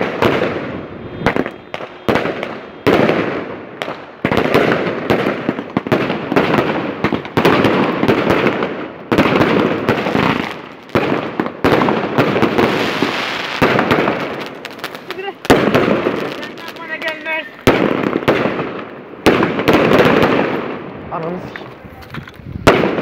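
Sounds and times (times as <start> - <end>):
fireworks bangs and crackle: 0.0 - 23.0.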